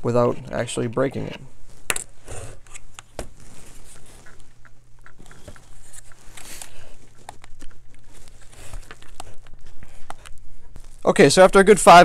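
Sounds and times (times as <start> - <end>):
plastic scraping rub: 0.3 - 11.2.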